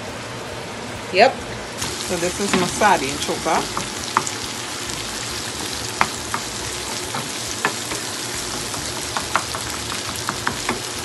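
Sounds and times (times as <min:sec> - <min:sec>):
fish sizzling in a frying pan: 0:01.8 - 0:11.0.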